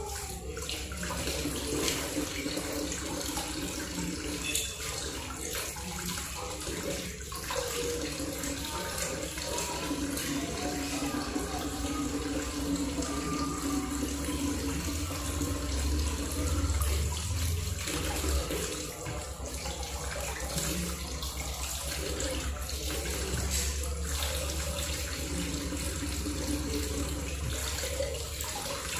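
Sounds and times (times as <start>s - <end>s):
tap water splashing in sink: 0.0s - 28.9s.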